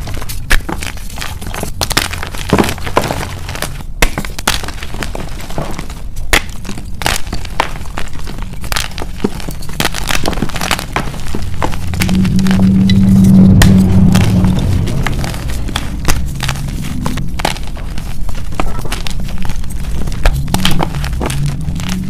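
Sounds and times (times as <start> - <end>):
chalk blocks crunching: 0.0 - 22.0.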